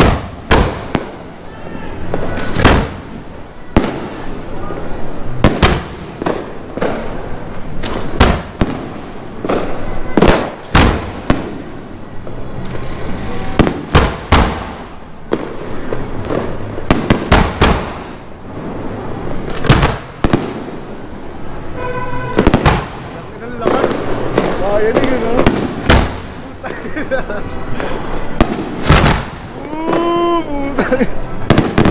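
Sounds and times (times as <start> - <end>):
firework bangs: 0.0 - 26.8, 27.6 - 30.2, 31.2 - 31.9
firecracker crackle: 0.0 - 31.9.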